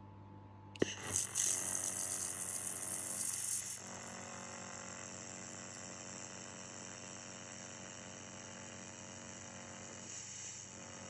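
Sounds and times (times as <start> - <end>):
laser welder electrical hum: 0.8 - 11.0
laser welding hiss: 0.8 - 11.0.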